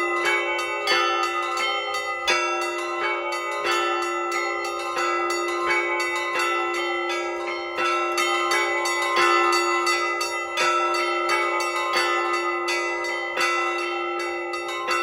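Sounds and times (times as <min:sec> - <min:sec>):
deep bell ringing: 0:00.0 - 0:15.0
small bells struck quickly: 0:00.0 - 0:15.0.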